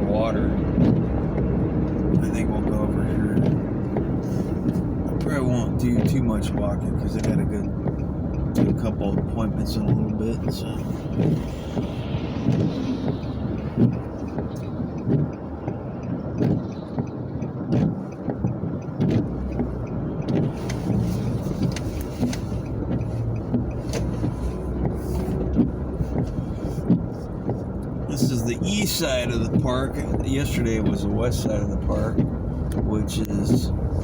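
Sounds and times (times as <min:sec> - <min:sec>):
car engine and tyre rumble: 0:00.0 - 0:34.0
light clicks and knocks: 0:00.6 - 0:34.0.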